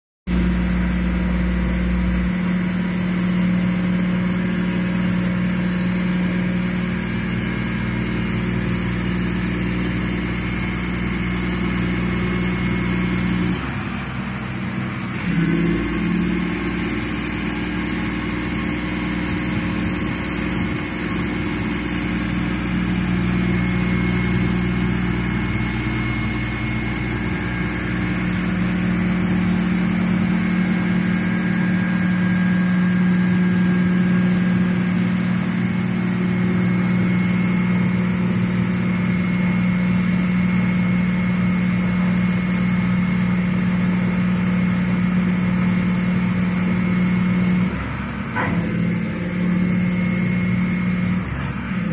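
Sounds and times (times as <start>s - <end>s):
excavator diesel engine running: 0.3s - 51.9s.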